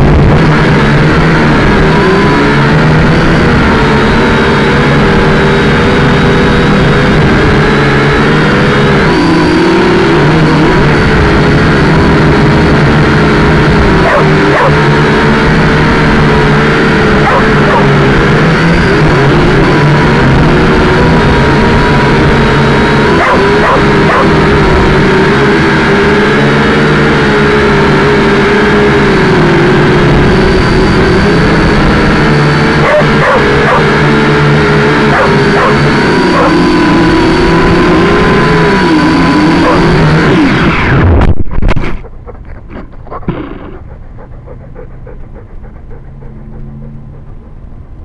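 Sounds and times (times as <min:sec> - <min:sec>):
drone motors and propellers whining: 0:00.0 - 0:48.0.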